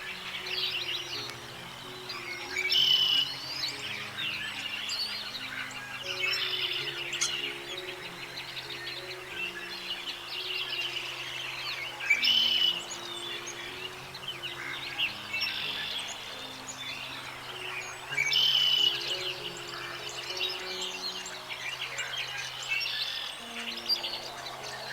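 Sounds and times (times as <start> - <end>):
soft background music: 0.0 - 24.9
songbirds chirping and singing: 0.0 - 24.9.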